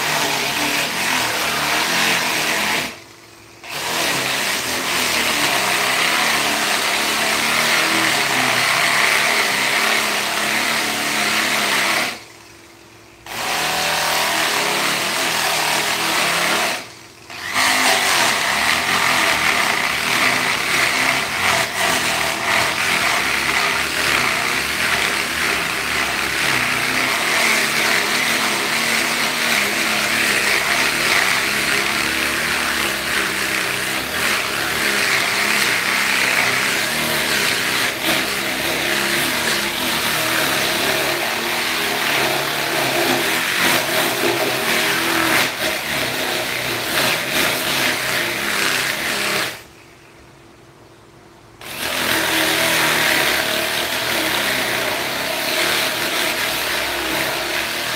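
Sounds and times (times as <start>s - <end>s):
power tool motor grinding: 0.0s - 49.7s, 51.6s - 57.9s.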